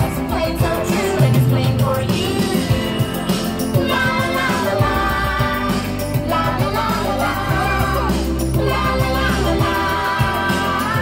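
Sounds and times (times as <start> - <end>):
show song singing over a beat: 0.0 - 11.0.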